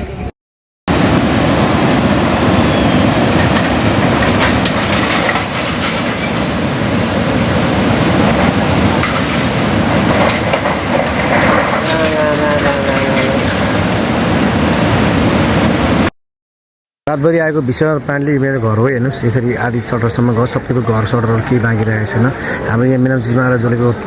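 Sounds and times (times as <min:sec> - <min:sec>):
floodwater rushing: 0:00.9 - 0:16.1, 0:17.2 - 0:24.0.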